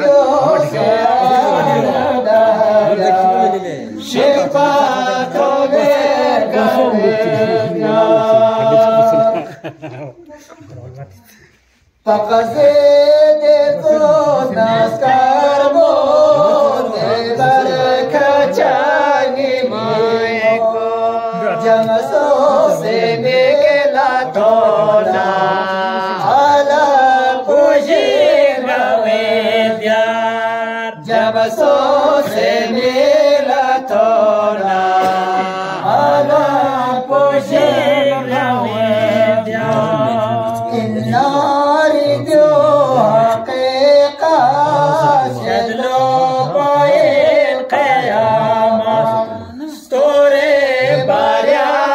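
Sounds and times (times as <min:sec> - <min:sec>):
men chanting unaccompanied: 0:00.0 - 0:10.0, 0:11.8 - 0:51.9.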